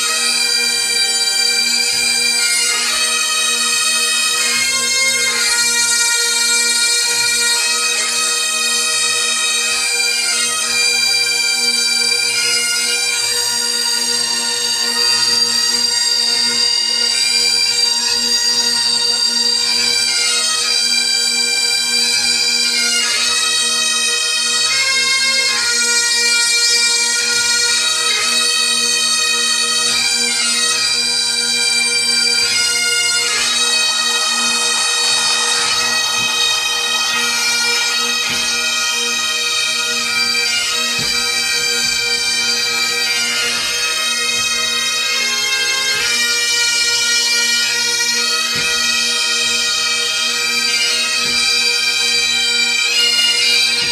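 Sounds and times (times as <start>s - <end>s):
bagpipes playing a tune: 0.0s - 53.9s.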